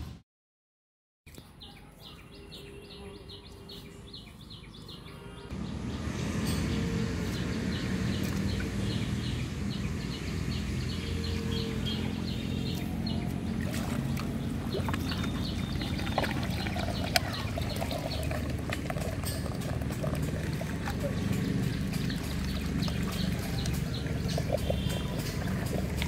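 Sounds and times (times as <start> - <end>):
birds chirping: 1.3 - 26.0.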